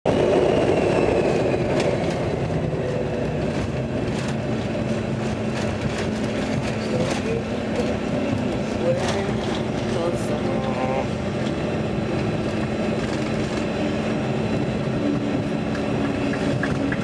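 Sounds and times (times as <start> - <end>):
jet engine rumble: 0.1 - 17.0.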